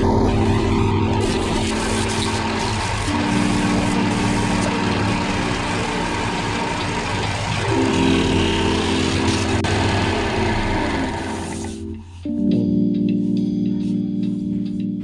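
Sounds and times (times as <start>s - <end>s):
wood lathe running: 0.0s - 12.1s
background music chords: 0.0s - 15.0s.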